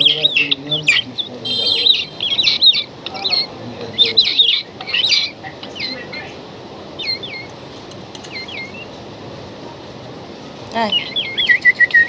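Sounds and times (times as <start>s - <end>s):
bird chick chirping: 0.0s - 6.4s, 7.0s - 9.0s, 10.7s - 12.0s.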